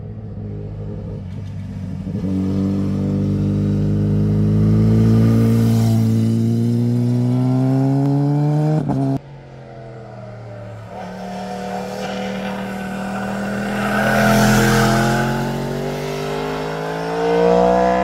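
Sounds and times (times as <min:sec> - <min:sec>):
motorcycle engine accelerating past: 0:00.8 - 0:18.0.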